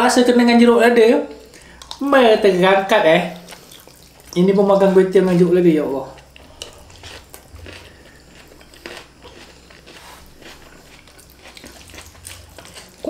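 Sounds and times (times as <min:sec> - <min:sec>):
people chewing: 0:01.3 - 0:02.1, 0:03.3 - 0:13.0.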